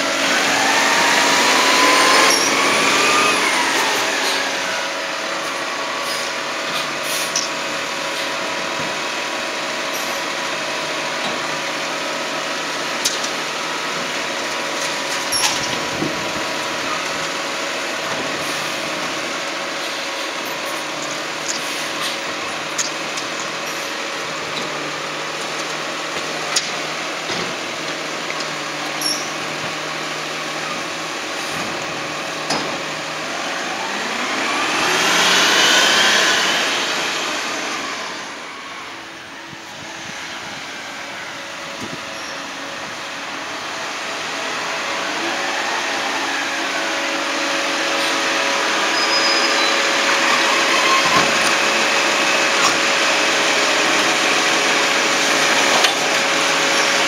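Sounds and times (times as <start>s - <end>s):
climbing engine whine: 0.0s - 57.0s
garbage truck engine running: 0.0s - 57.0s.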